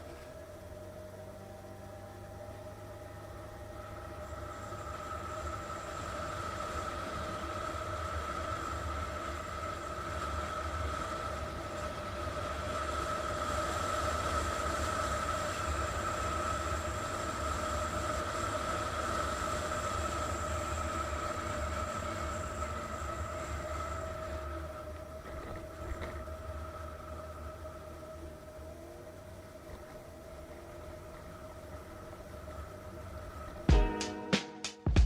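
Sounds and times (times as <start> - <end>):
scooter engine droning: 0.0 - 34.0.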